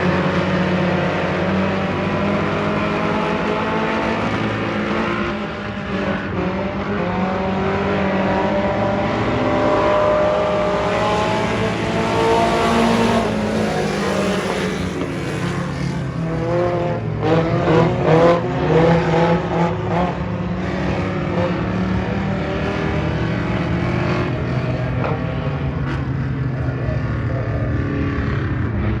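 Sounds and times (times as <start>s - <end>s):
race car engine running: 0.0s - 29.0s.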